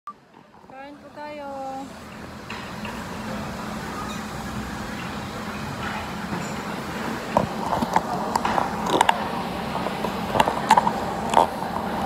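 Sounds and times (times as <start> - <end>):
steady background hum: 0.1 - 12.0.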